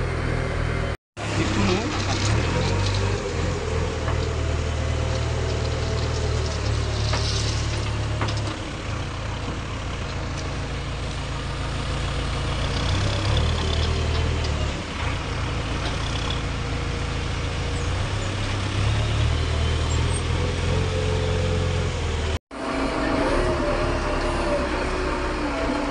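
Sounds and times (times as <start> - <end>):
diesel engine rumbling: 0.0 - 25.9.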